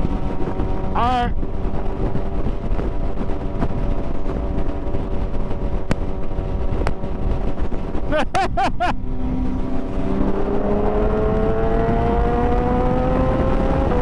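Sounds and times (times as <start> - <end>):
motorcycle engine rumbling: 0.0 - 14.0
wind on microphone: 0.0 - 14.0.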